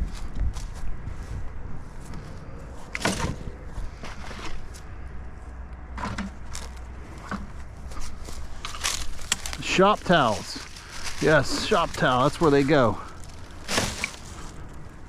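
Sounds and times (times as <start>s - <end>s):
litter and brush crunching: 0.0s - 15.0s.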